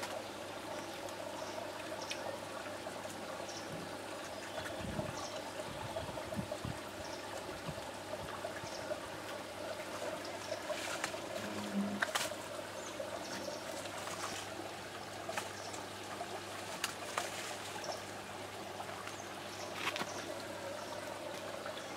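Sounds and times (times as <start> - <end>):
water trickling: 0.0 - 21.9.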